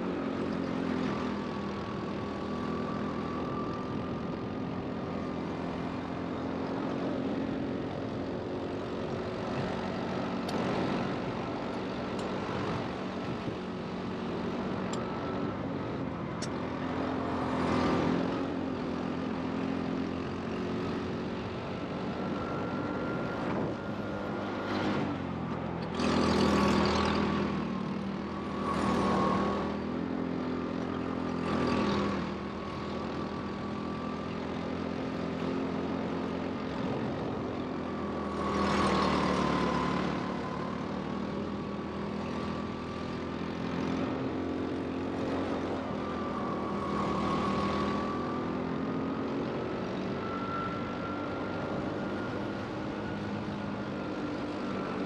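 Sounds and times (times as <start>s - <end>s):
go-kart motor drone and whine: 0.0s - 55.0s.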